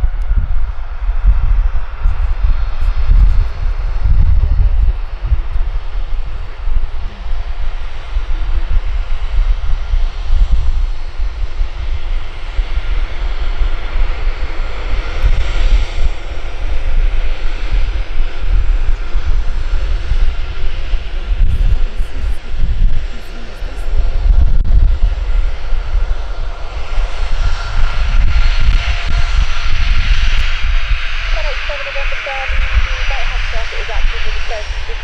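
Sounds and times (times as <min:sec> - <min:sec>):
jet engine hiss: 0:00.0 - 0:35.0
jet engines rumbling on runway: 0:00.0 - 0:35.0.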